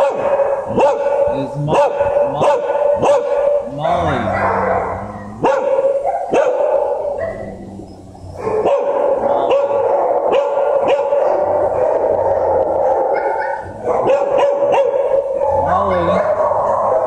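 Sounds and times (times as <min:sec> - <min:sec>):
many dogs barking: 0:00.0 - 0:17.0.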